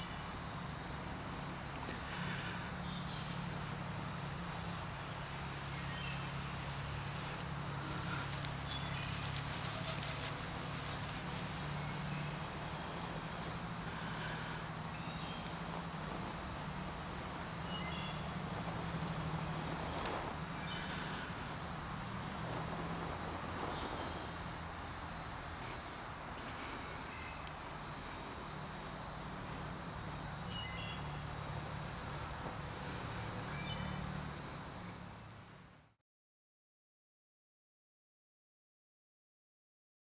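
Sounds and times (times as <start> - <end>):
even hiss: 0.0 - 35.8
steady low hum: 0.0 - 35.9.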